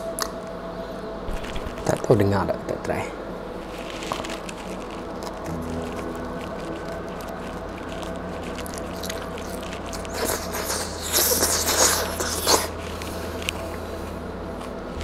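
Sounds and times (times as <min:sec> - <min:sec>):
low hum: 0:00.0 - 0:15.0
chewing wrap: 0:01.3 - 0:02.1, 0:03.5 - 0:15.0.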